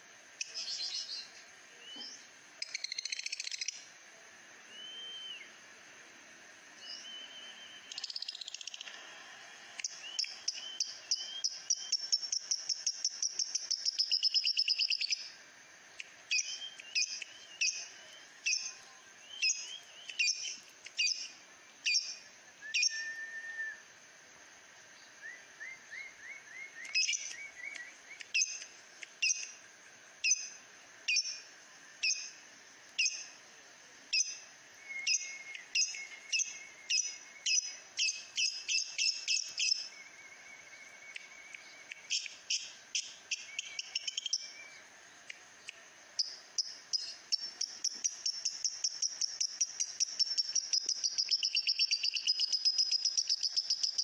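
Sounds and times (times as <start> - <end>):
lovebird chirping: 0.4 - 3.9, 6.8 - 9.0, 9.8 - 23.1, 25.0 - 29.6, 30.2 - 32.4, 33.0 - 33.4, 34.1 - 44.9, 46.2 - 54.0.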